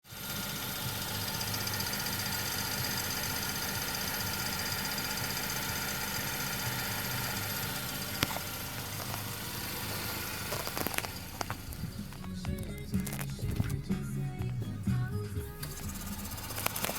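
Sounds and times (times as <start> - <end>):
car engine running: 0.0 - 16.9.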